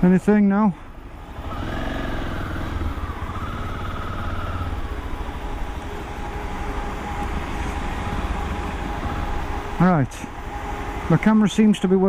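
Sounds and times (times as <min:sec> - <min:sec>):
motorcycle engine rumbling: 0:00.0 - 0:12.0
road and wind noise: 0:00.0 - 0:12.0.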